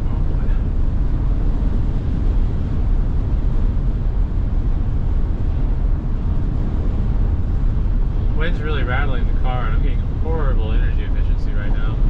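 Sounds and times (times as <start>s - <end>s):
car cabin road noise: 0.0s - 12.0s
wind buffeting car: 0.0s - 12.0s.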